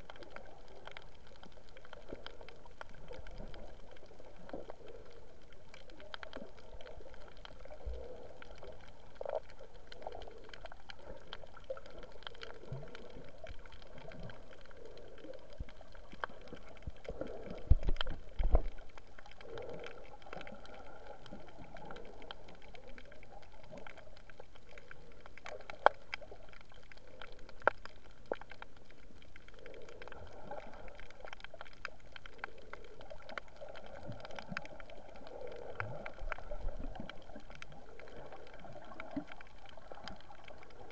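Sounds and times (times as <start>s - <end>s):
muffled underwater gurgling: 0.0s - 40.9s
sharp underwater clicks: 0.0s - 40.9s.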